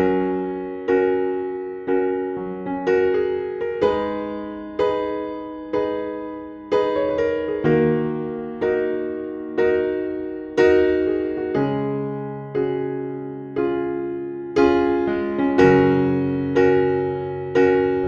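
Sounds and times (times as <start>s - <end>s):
slow electric piano chords: 0.0s - 18.0s.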